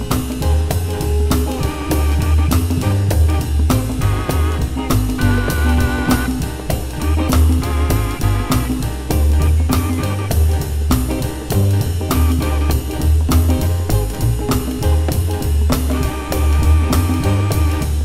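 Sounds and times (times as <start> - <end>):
blues backing band: 0.0 - 18.0
lead instrument blues phrases: 0.0 - 18.0.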